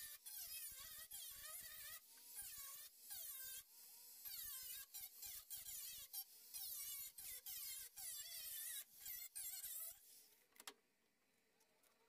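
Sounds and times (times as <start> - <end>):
angle grinder cutting steel: 0.0 - 10.2.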